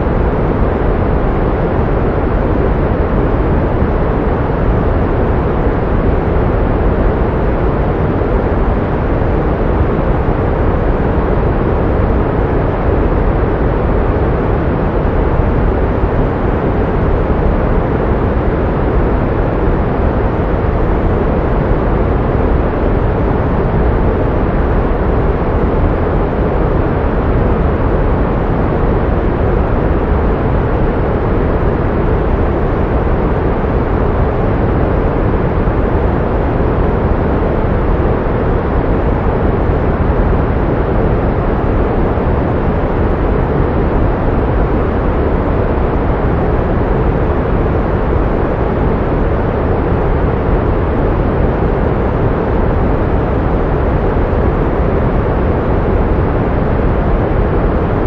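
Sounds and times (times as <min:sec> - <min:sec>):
pink noise: 0:00.0 - 0:58.0.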